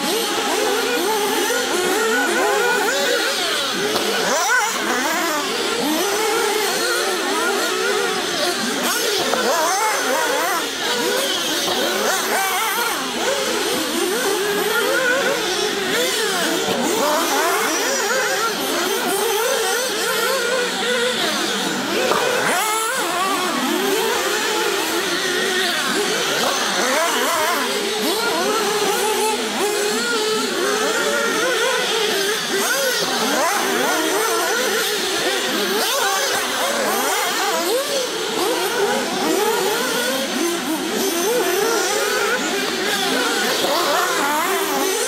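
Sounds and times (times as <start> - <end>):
small rc car engines racing: 0.0 - 45.0.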